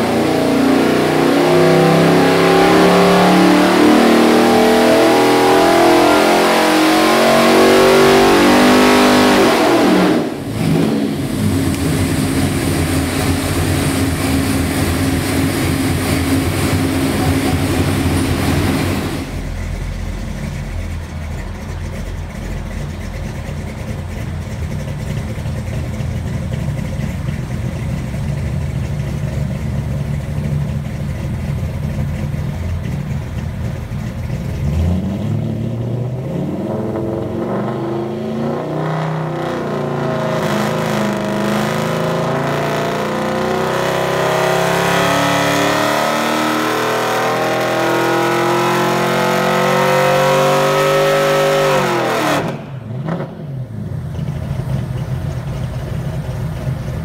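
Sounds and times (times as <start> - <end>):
engine rumbling and revving: 0.0 - 57.0.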